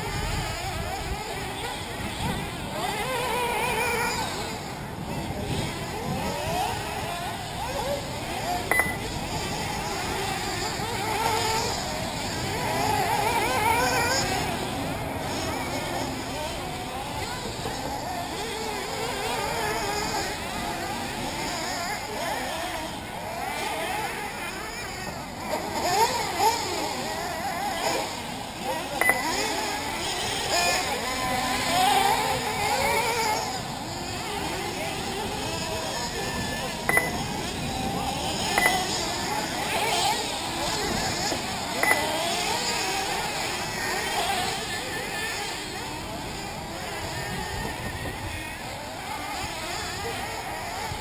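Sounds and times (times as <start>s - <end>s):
model buggy engines buzzing: 0.0s - 51.0s.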